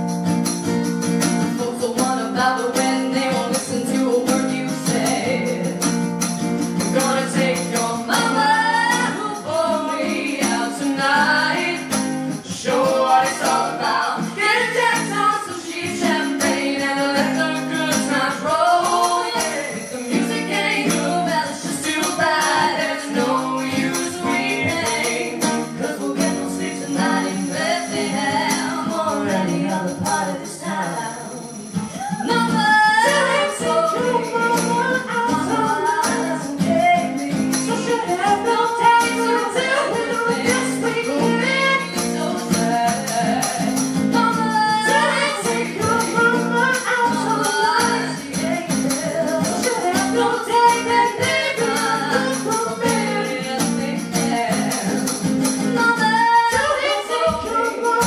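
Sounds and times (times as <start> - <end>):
strummed acoustic guitar: 0.0 - 58.0
man and woman singing: 1.0 - 58.0.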